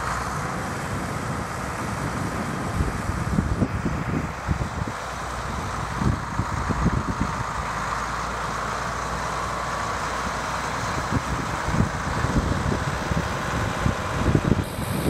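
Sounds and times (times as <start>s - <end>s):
diesel tractor engine running: 0.0s - 15.0s
wind buffeting microphone: 0.0s - 15.0s.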